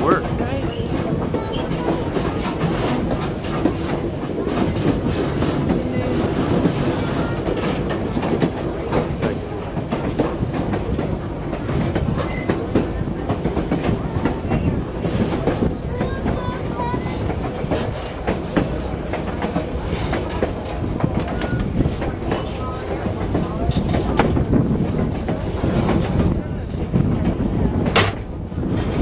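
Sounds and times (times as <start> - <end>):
train coach rumbling: 0.0 - 29.0
wheels clicking over rail joints: 0.0 - 29.0.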